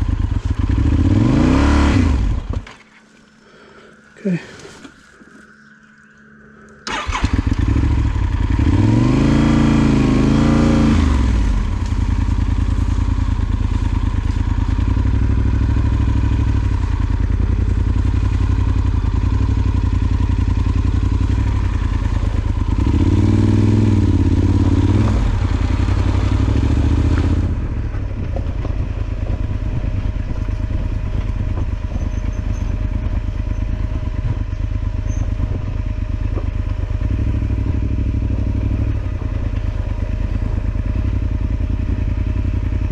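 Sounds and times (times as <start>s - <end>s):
motorcycle engine revving: 0.0s - 2.7s, 6.8s - 42.9s.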